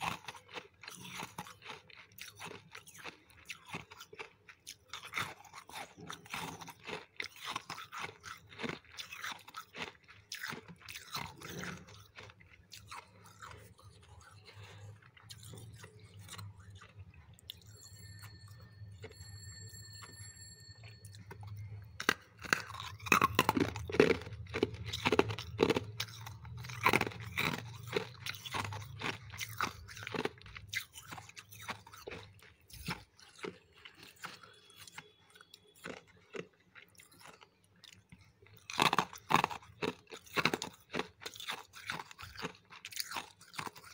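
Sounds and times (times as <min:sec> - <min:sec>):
chewing ice crunches: 0:00.0 - 0:17.9, 0:21.1 - 0:43.9.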